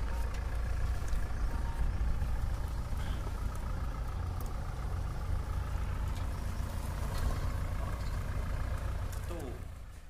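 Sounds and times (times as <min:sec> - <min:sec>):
diesel engine running at low revs: 0:00.0 - 0:10.0.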